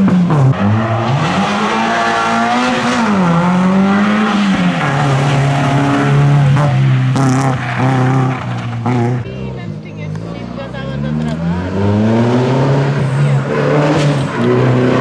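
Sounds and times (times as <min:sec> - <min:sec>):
rally car engine at full load: 0:00.0 - 0:15.0.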